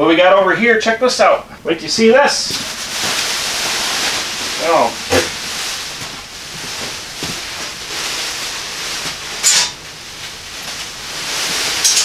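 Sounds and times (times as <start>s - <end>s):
plastic sheeting rustling: 2.0s - 12.0s.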